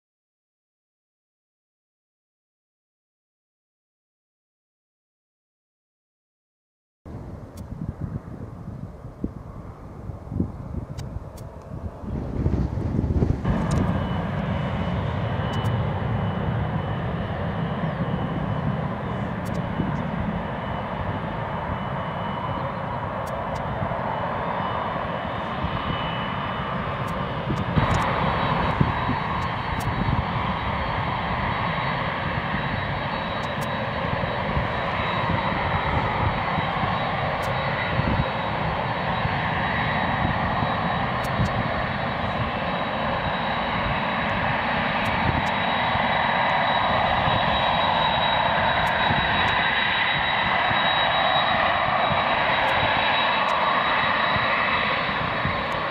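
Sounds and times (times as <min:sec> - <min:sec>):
high engine whine: 0:07.1 - 0:55.9
jet engines roaring: 0:07.1 - 0:55.9.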